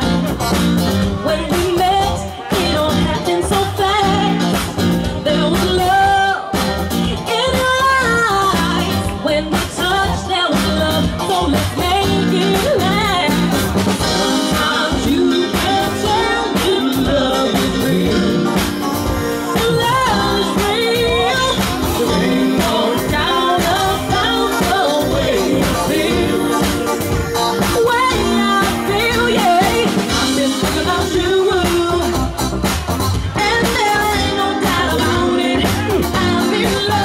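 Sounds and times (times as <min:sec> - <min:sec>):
people singing into microphones: 0:00.0 - 0:32.6, 0:33.2 - 0:37.0
live dance band playing: 0:00.0 - 0:37.0.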